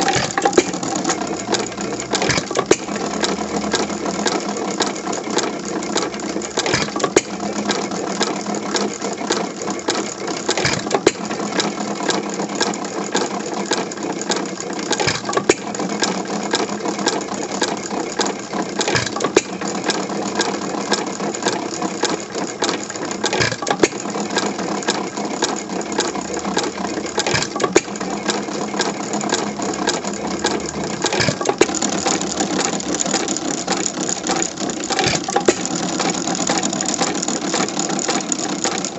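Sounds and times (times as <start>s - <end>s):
engine knock: 0.0s - 38.9s
stationary engine clicking clatter: 0.0s - 38.9s.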